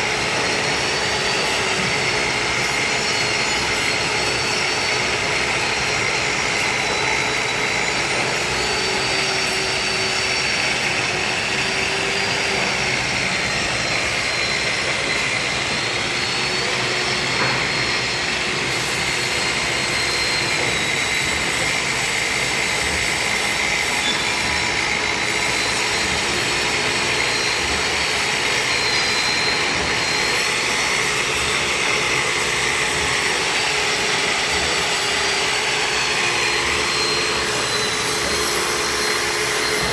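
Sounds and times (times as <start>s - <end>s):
grinding machine hiss and whine: 0.0s - 39.9s.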